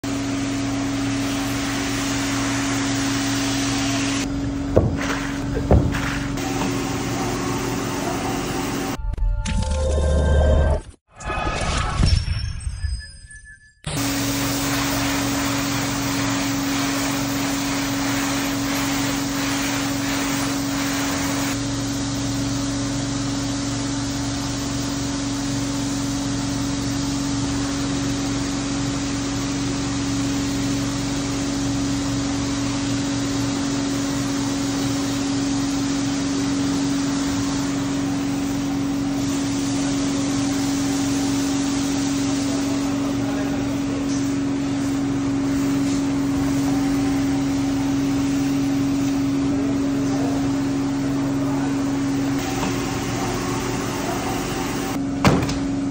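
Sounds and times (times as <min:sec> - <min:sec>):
rotary floor scrubber running: 0:00.0 - 0:09.0, 0:13.9 - 0:55.9
steady motor hum: 0:00.0 - 0:09.0, 0:13.9 - 0:55.9
water hissing from hose wand: 0:00.0 - 0:09.0, 0:13.9 - 0:55.0.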